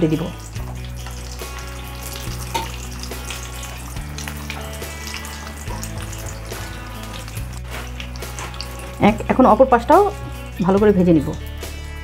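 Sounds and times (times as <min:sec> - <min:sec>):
background music with low notes: 0:00.0 - 0:12.0
food sizzling in hot oil: 0:00.0 - 0:12.0
metal spoon turning food: 0:00.2 - 0:10.2.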